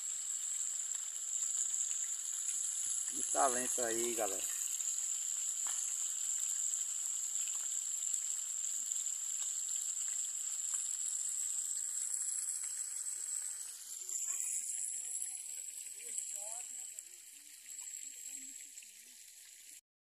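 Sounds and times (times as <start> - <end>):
fish sizzling in hot oil: 0.0 - 19.8.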